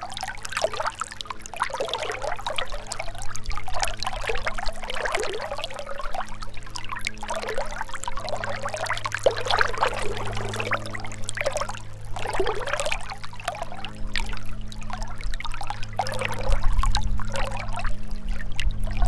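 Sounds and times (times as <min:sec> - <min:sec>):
low hum: 0:00.0 - 0:19.0
river trickling: 0:00.0 - 0:19.0.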